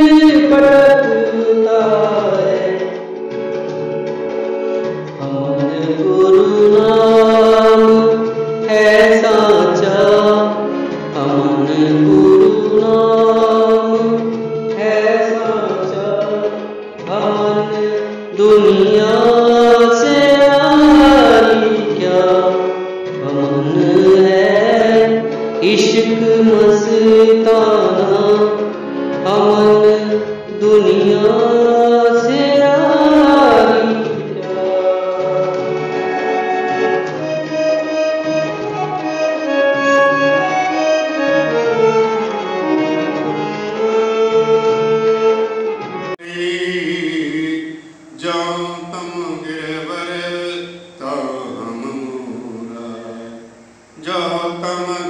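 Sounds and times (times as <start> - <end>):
person singing devotional melody: 0.0 - 55.0.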